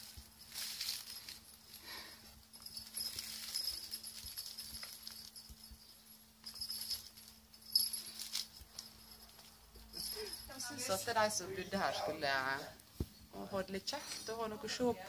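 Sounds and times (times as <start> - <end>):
small bell jingling: 0.0 - 12.7.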